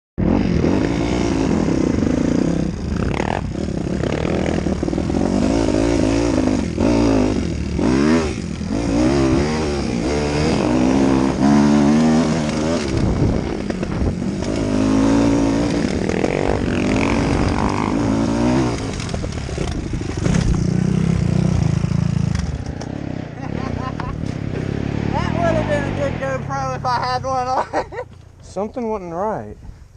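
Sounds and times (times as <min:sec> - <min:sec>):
dirt bike engine revving: 0:00.2 - 0:28.0.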